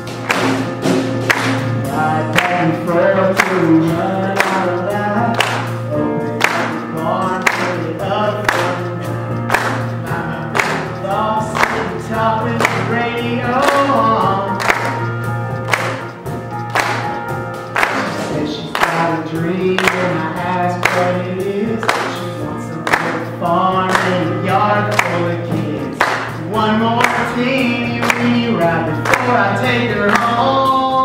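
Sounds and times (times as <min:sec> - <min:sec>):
musical accompaniment with beat: 0:00.0 - 0:31.0
man singing country song: 0:01.8 - 0:15.0, 0:17.9 - 0:31.0.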